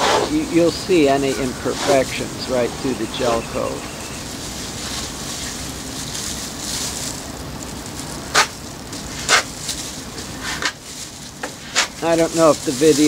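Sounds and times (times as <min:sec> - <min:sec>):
plastic spreader scraping: 0:00.0 - 0:07.2, 0:08.0 - 0:13.0.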